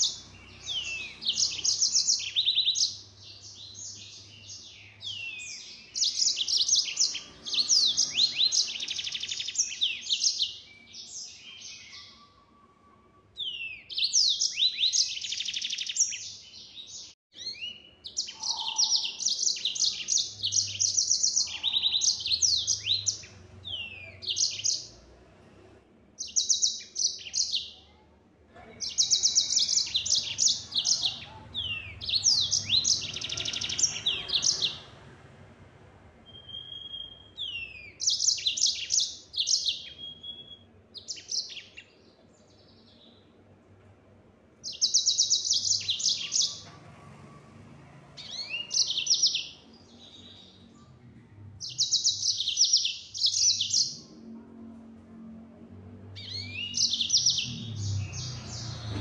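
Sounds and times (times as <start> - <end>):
canary trilling song: 0.0 - 28.0, 28.8 - 35.4, 36.2 - 43.4, 44.6 - 54.4, 55.8 - 59.0.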